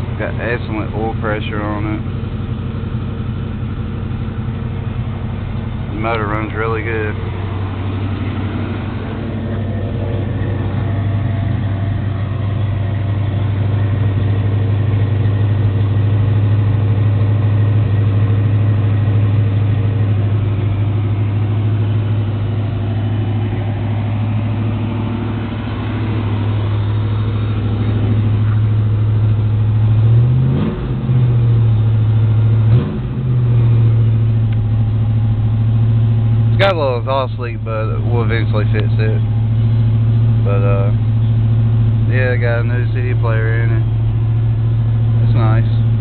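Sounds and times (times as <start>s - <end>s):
car engine idling: 0.0s - 46.0s
engine revving: 0.0s - 46.0s.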